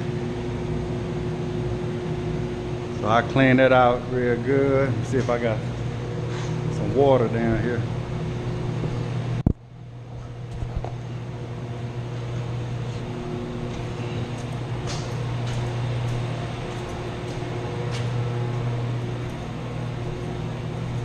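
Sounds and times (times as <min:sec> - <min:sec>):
machinery motor humming: 0:02.5 - 0:21.0.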